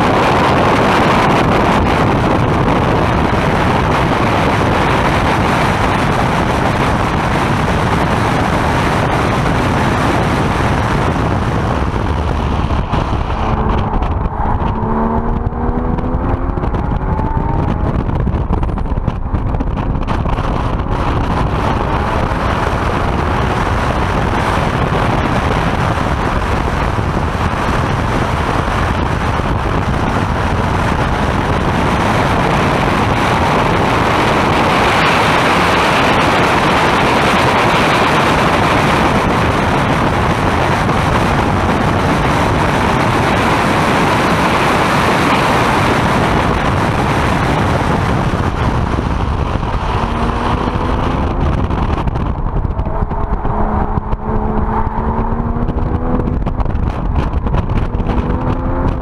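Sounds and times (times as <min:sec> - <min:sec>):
car engine: 0:00.0 - 0:59.0
road noise: 0:00.0 - 0:59.0
wind rush: 0:00.0 - 0:59.0.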